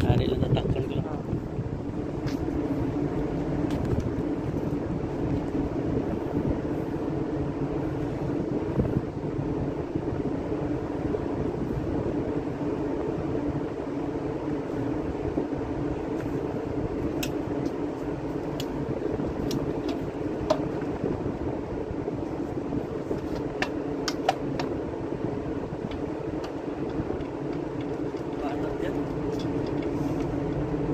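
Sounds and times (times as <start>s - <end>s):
ship machinery drone: 0.0s - 30.9s.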